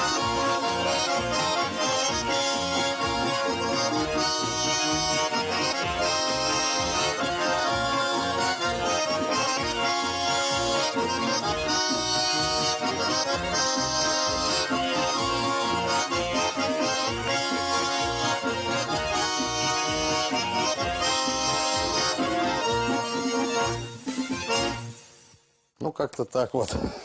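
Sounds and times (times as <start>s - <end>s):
accordion folk tune: 0.0s - 25.5s.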